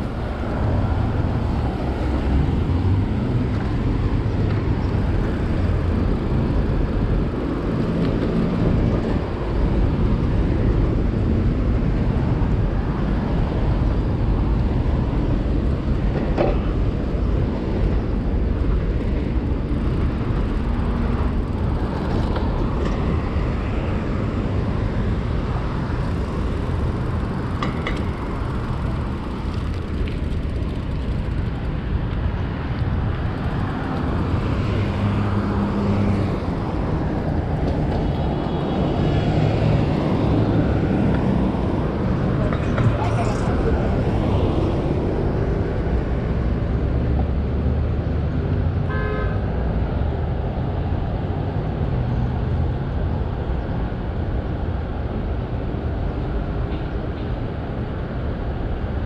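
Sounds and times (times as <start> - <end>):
cars going by: 0.0 - 59.0
low traffic rumble: 0.0 - 59.0.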